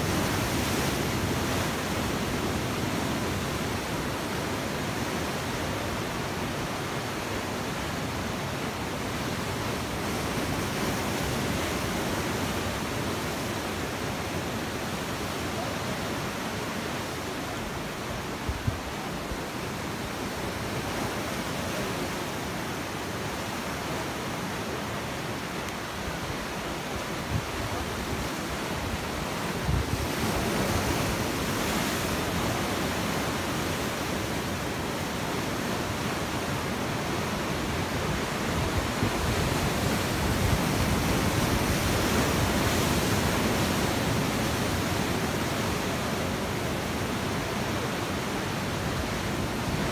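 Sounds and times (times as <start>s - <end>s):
waves breaking over rocks: 0.0s - 49.9s.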